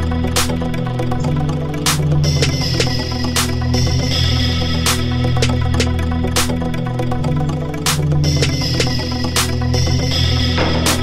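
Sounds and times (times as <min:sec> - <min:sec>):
sustained low music notes: 0:00.0 - 0:11.0.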